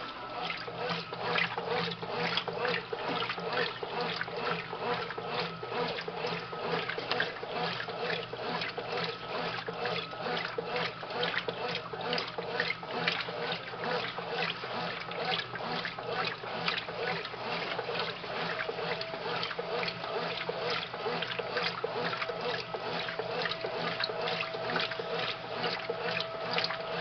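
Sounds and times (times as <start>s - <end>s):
washing machine motor hum: 0.0s - 27.0s
water sloshing in washing machine: 0.0s - 27.0s.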